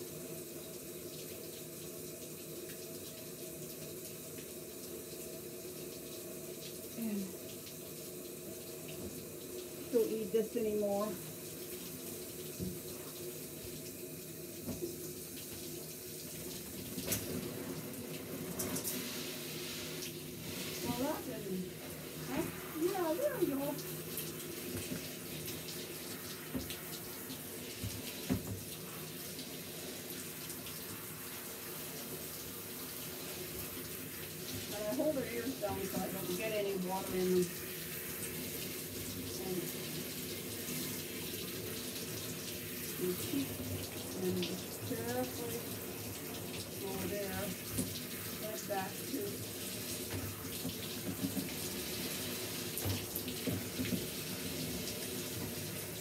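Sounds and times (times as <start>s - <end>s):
water running from shower head: 0.0s - 56.0s.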